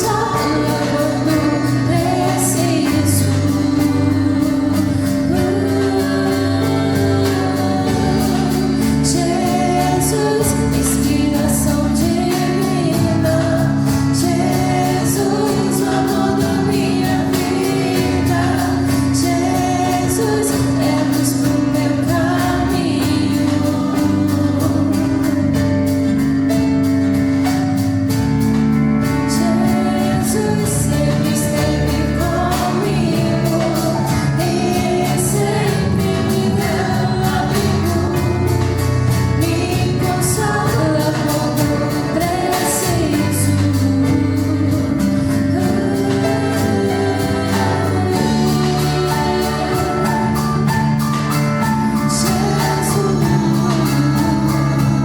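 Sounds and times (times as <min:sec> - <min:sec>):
backing singers: 0:00.0 - 0:55.0
lead singer singing: 0:00.0 - 0:55.0
live band playing: 0:00.0 - 0:55.0
steady drum beat: 0:00.0 - 0:55.0.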